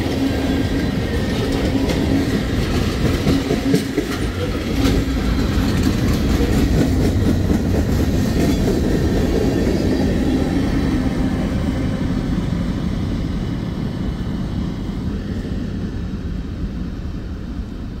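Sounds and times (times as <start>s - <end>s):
train rumbling along rails: 0.0s - 18.0s.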